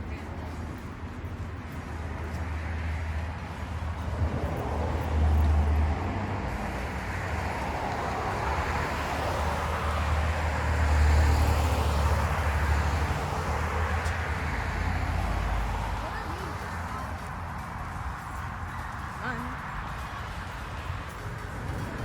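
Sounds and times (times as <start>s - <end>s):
passing cars: 0.0s - 22.0s.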